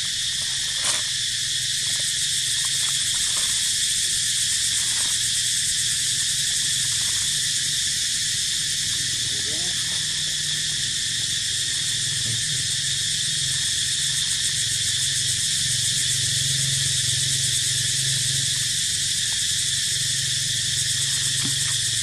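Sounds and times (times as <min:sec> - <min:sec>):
constant low hum: 0:00.0 - 0:22.0
pulsing insect chorus: 0:00.0 - 0:22.0.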